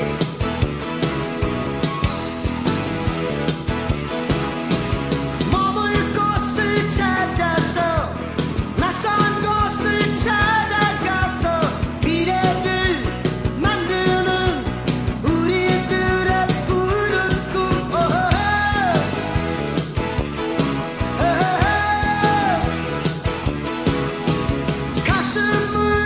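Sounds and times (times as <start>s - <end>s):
rock song with vocals: 0.0s - 26.0s
steady drum beat: 0.0s - 26.0s.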